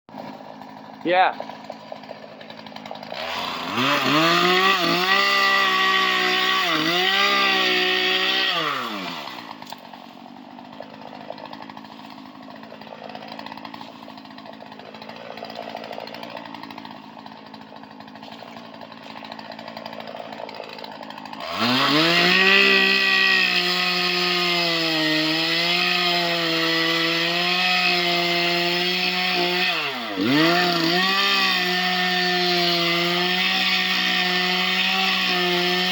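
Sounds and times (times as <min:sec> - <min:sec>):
chainsaw idling: 0:00.1 - 0:35.9
chainsaw revving: 0:00.1 - 0:35.9.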